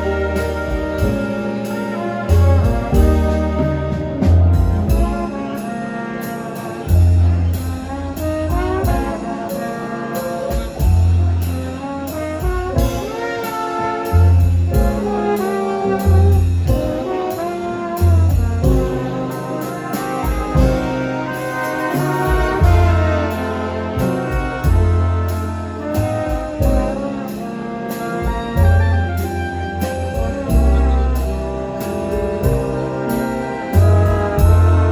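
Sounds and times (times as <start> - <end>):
deep bass notes: 0.0 - 34.9
orchestra with brass playing: 0.0 - 34.9.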